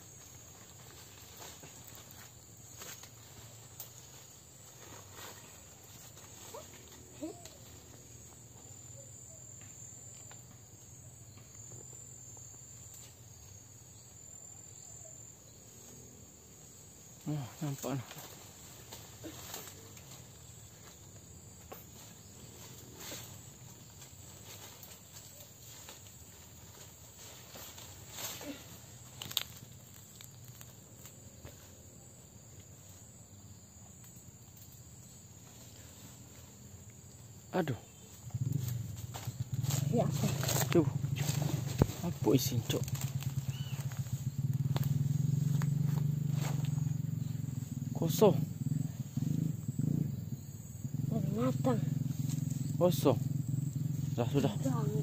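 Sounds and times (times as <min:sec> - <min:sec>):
rustling of leaves and twigs: 0:00.0 - 0:09.0, 0:16.7 - 0:49.4, 0:50.9 - 0:55.0
insects chirring: 0:00.0 - 0:55.0.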